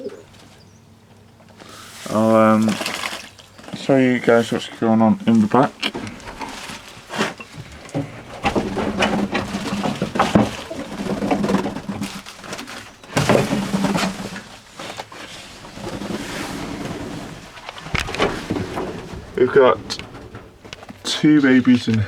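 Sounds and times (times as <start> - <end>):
pigeons cooing: 0.0 - 2.7, 5.8 - 21.2
knocks and rustles of movement: 0.0 - 22.0.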